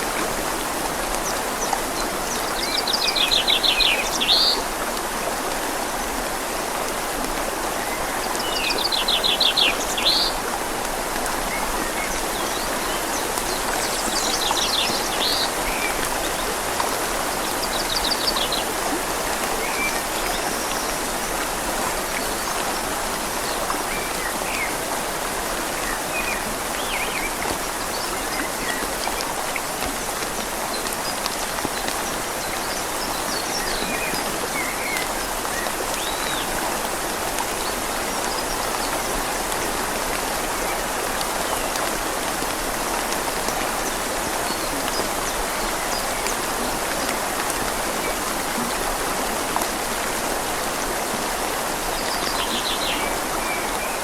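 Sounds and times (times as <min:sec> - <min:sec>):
rain falling on leaves: 0:00.0 - 0:54.0
river flowing: 0:00.0 - 0:54.0.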